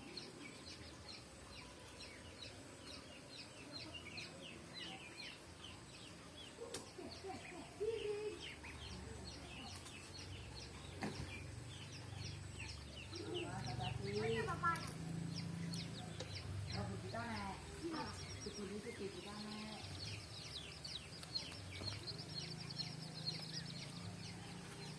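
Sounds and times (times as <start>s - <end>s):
chicks peeping: 0.0s - 24.9s.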